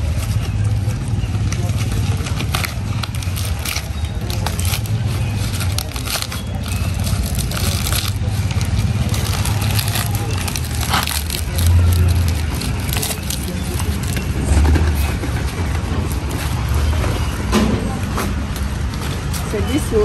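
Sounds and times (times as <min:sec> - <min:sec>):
dry leaves crackling and rustling: 0:00.0 - 0:17.5.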